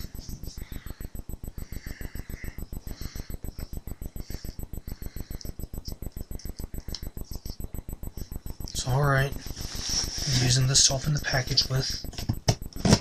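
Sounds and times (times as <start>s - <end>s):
rapid low pulsing: 0.0s - 12.8s.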